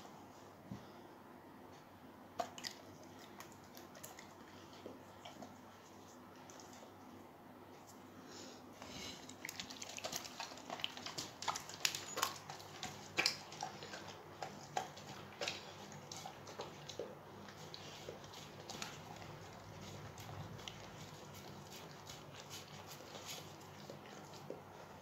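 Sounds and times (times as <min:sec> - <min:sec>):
dog licking a ceramic plate: 0:02.4 - 0:06.9, 0:09.2 - 0:25.0.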